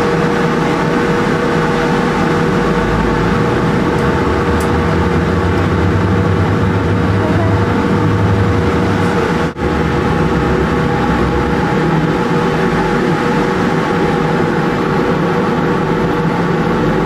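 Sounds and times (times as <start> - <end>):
ship engine humming: 0.0 - 17.0.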